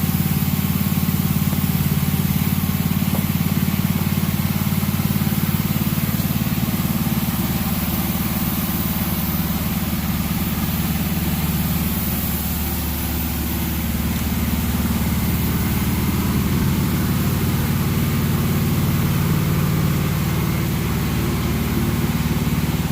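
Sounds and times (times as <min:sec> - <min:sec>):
machine motor humming: 0:00.0 - 0:22.9.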